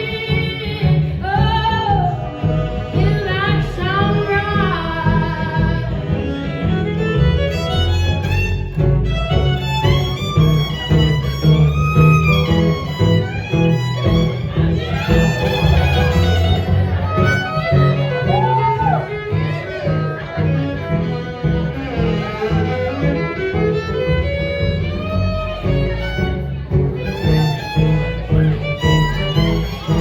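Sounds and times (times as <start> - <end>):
bass line: 0.0 - 30.0
fiddle melody: 0.0 - 30.0
guitar: 0.0 - 30.0.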